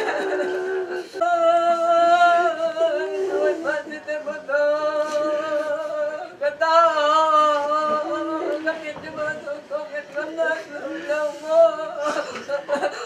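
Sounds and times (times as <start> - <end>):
person singing a lament: 0.0 - 13.0.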